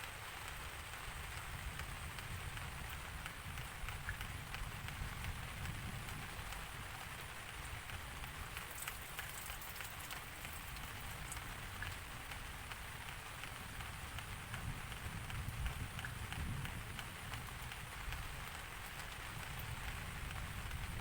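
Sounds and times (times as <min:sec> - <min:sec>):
raindrops ticking: 0:00.0 - 0:21.0
steady rain: 0:00.0 - 0:21.0.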